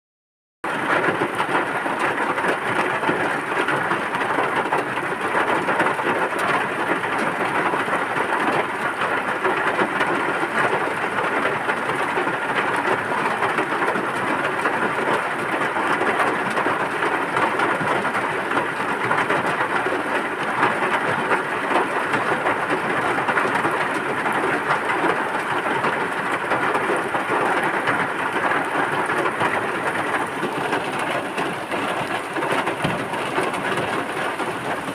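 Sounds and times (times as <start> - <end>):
heavy rain: 0.7 - 34.9.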